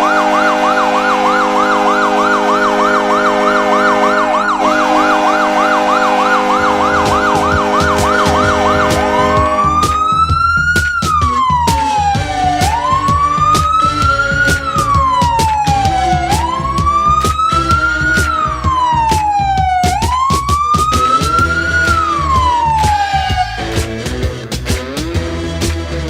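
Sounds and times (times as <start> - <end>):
siren yelping and wailing: 0.0 - 24.1
goal horn blast: 0.0 - 24.4
drum beat: 4.6 - 26.0.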